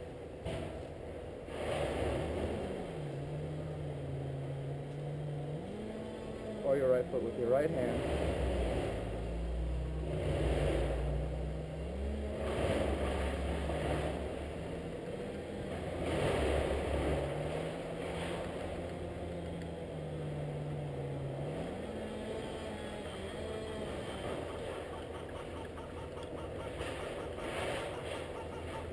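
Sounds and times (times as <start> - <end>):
motor engine running: 3.2 - 28.9.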